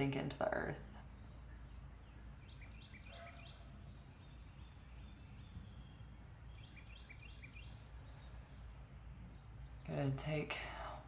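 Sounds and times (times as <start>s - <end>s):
bird chirping: 0.0s - 11.0s
birds singing: 0.0s - 11.0s.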